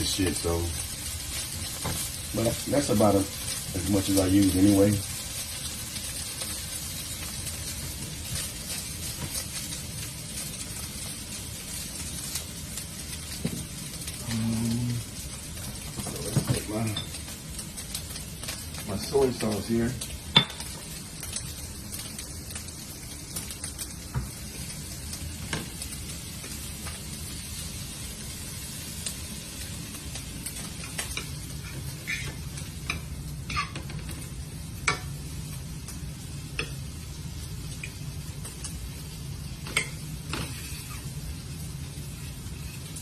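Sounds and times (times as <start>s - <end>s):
chicken sizzling in a pan: 0.0s - 43.0s.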